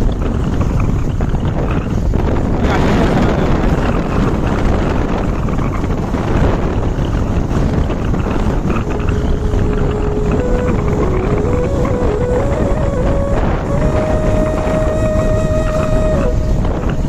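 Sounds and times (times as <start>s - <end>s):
road and engine noise: 0.0s - 17.0s
wind rush on microphone: 0.0s - 17.0s.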